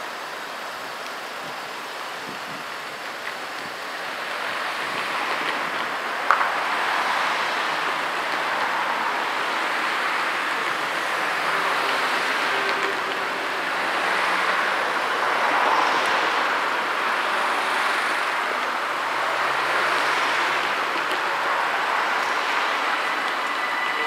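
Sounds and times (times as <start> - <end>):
cars driving past: 3.6 - 24.0.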